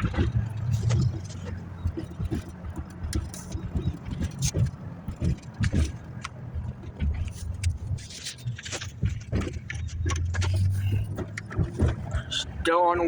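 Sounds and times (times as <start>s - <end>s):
short knocks and clicks: 0.0s - 12.4s
car engine and road noise: 0.0s - 13.0s.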